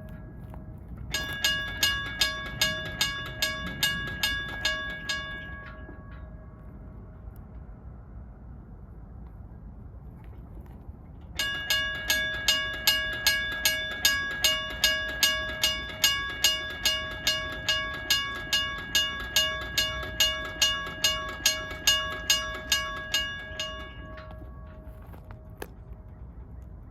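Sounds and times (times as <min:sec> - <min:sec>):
railroad crossing bells ringing: 0:00.0 - 0:07.4, 0:11.2 - 0:26.1.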